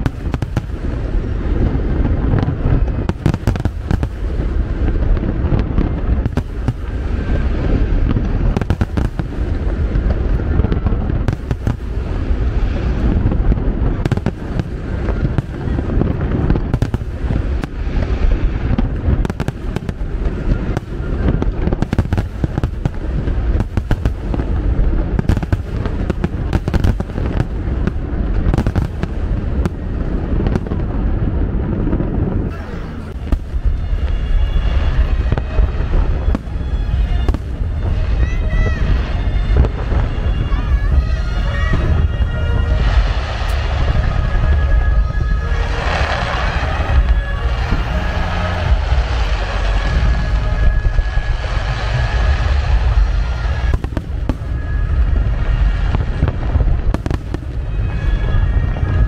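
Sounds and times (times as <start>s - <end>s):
fireworks low rumble: 0.0s - 59.0s.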